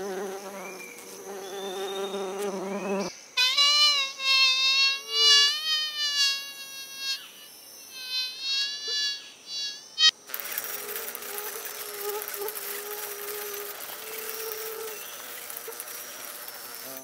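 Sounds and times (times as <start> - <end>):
faint steady hiss: 0.0 - 17.0
fly buzzing: 0.0 - 17.0.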